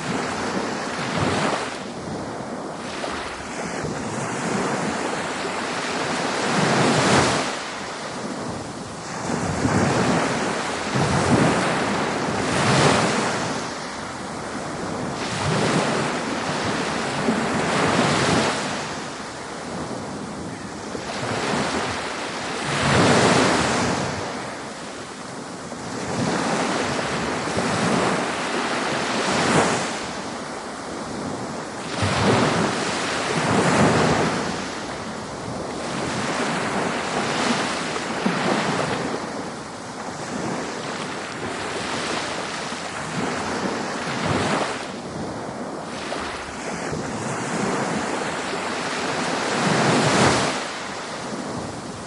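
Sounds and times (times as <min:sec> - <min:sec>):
ocean waves breaking: 0:00.0 - 0:52.0
surf hiss: 0:00.0 - 0:52.0.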